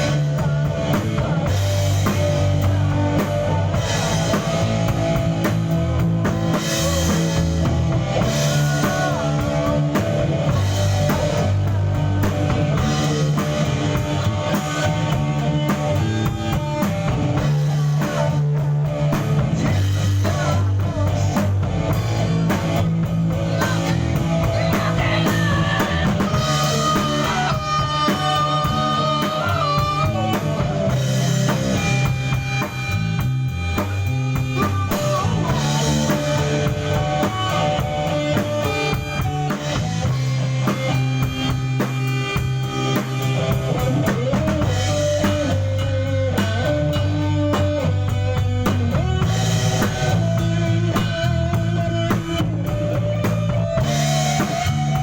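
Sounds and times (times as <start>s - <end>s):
bass guitar: 0.0s - 55.0s
drum kit: 0.0s - 55.0s
electric guitar melody: 0.0s - 55.0s.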